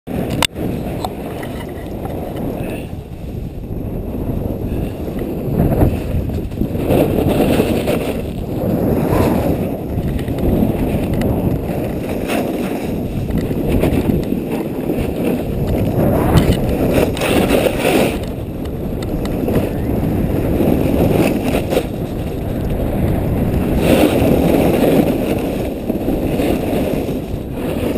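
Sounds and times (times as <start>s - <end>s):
snowboard scraping over snow: 0.1s - 27.9s
wind buffeting microphone: 0.1s - 27.9s.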